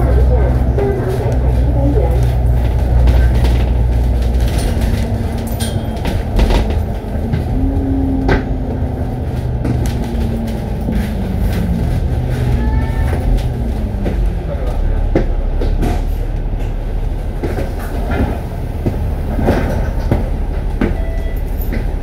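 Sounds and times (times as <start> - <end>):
bus engine and road rumble: 0.0 - 22.0
rattles and clunks from bus body: 0.0 - 22.0.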